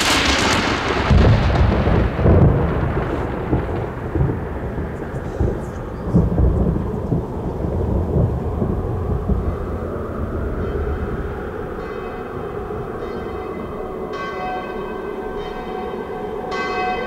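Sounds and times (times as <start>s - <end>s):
rolling thunder: 0.0s - 14.2s.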